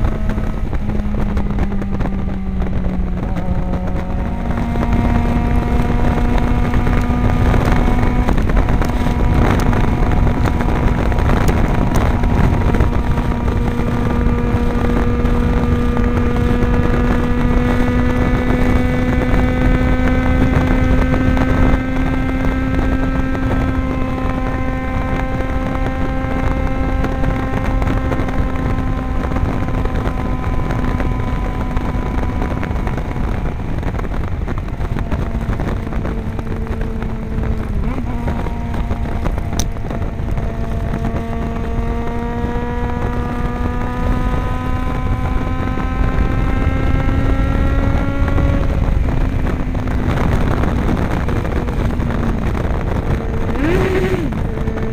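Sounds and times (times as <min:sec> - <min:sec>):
motorcycle engine at high revs: 0:00.0 - 0:54.9
wind on microphone: 0:00.0 - 0:54.9.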